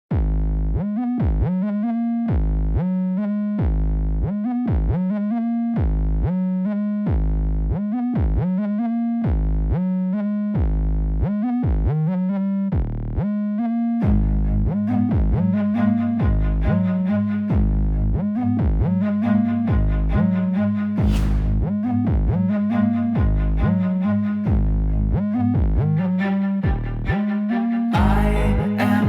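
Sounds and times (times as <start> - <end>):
pulsing sliding bass: 0.1 - 29.0.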